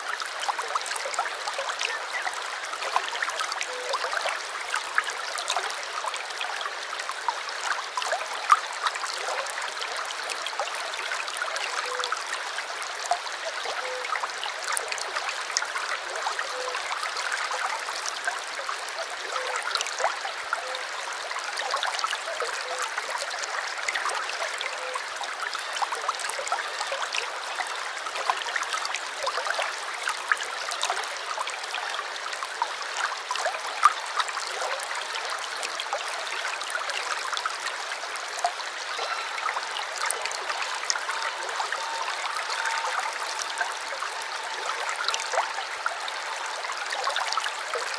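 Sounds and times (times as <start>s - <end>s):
small stream babbling: 0.0s - 47.9s.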